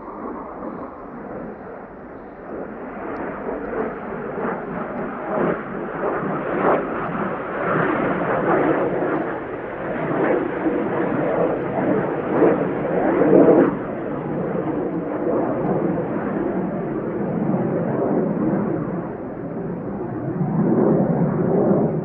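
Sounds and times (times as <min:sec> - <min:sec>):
jet flying away: 0:00.0 - 0:22.0.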